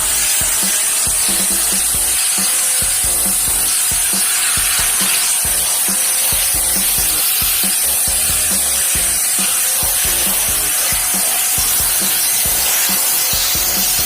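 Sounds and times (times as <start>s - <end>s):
pressure washer water jet hissing: 0.0s - 14.0s.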